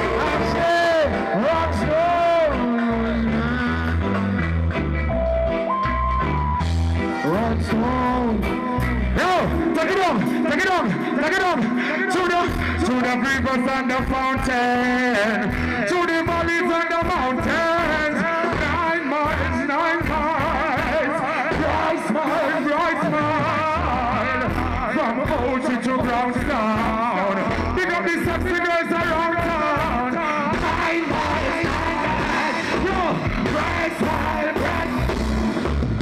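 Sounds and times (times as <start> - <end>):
man singing into microphone: 0.0 - 4.5, 7.2 - 35.1
live reggae band: 0.0 - 36.0.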